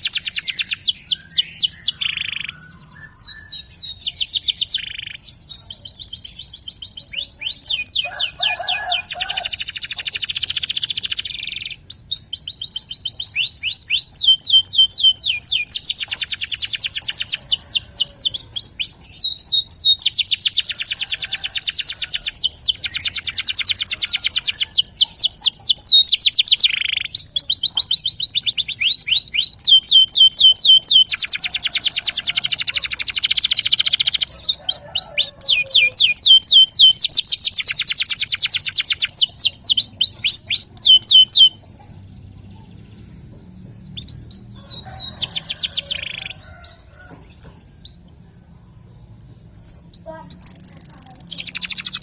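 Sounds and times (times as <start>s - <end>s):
canary trilling: 0.0s - 41.8s, 43.8s - 48.2s, 49.9s - 52.0s.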